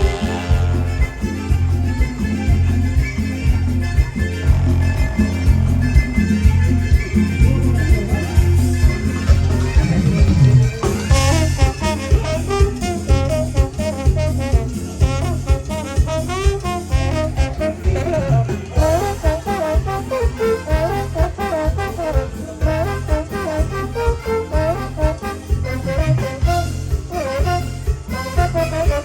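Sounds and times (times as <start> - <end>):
brass melody: 0.0 - 29.0
latin band music: 0.0 - 29.0.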